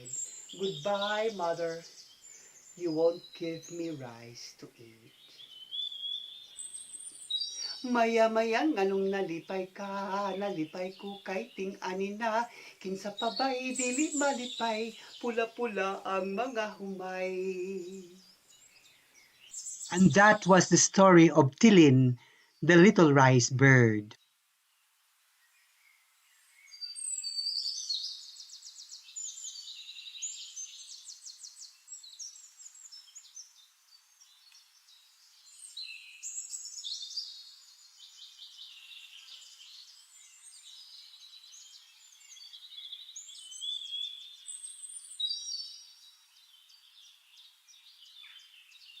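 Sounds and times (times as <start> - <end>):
small birds singing: 0.0 - 49.0.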